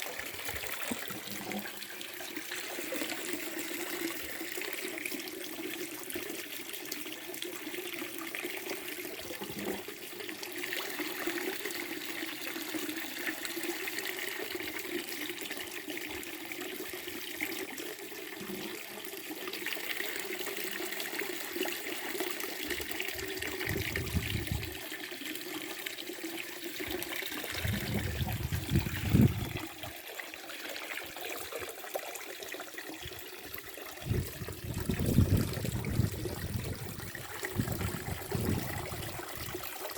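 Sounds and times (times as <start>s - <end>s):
spring water trickling from spout: 0.0s - 39.9s.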